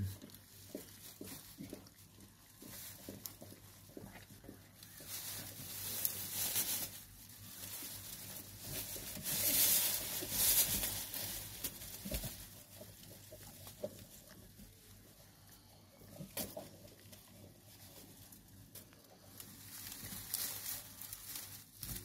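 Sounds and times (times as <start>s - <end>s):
dog rustling and snuffling: 0.0s - 22.0s.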